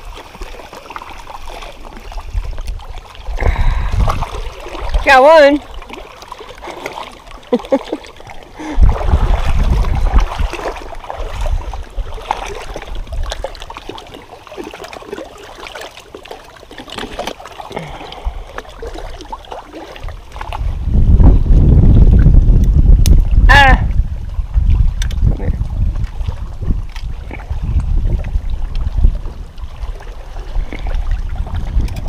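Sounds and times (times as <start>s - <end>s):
wind rumbling on microphone: 0.0s - 6.3s, 7.8s - 14.2s, 17.8s - 32.0s
lapping lake water: 0.0s - 32.0s.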